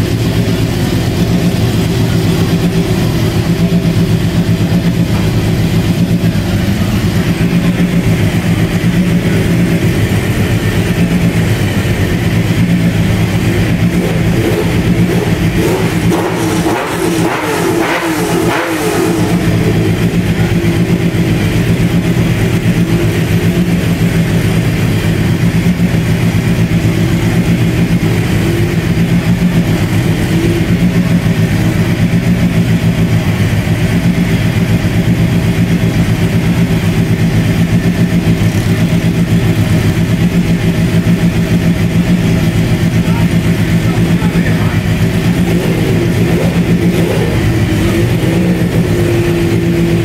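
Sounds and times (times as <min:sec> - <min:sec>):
rally car engine idling: 0:00.0 - 0:50.0.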